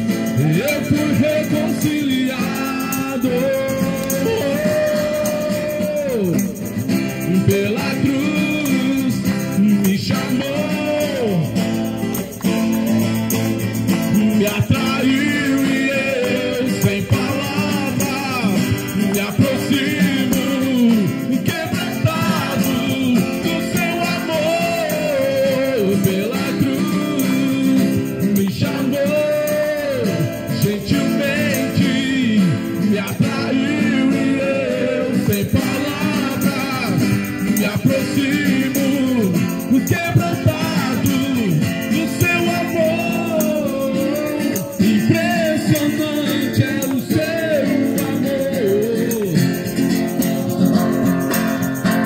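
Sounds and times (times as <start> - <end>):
worship song with instrumental backing: 0.0 - 52.0.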